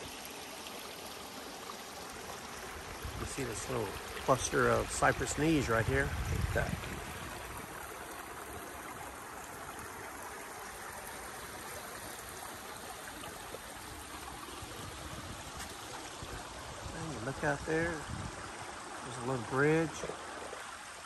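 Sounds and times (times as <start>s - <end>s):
creek trickling over sand: 0.0s - 21.0s.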